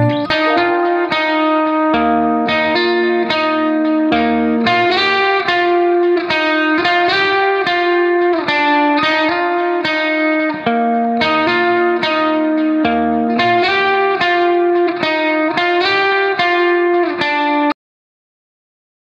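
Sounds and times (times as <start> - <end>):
plucked guitar melody: 0.0 - 17.8.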